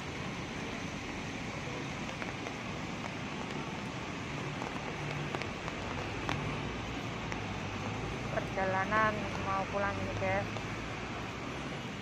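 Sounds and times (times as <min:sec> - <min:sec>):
rain drop ticks: 0:00.0 - 0:11.8
rain on wet paving: 0:00.0 - 0:12.0.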